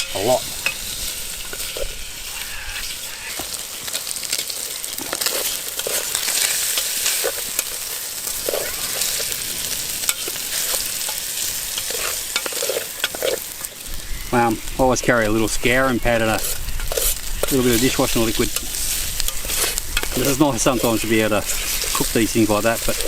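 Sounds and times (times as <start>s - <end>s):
scraping in metal pot: 0.0s - 4.4s, 5.0s - 13.6s, 16.2s - 22.0s
meat sizzling in oil: 0.0s - 23.0s.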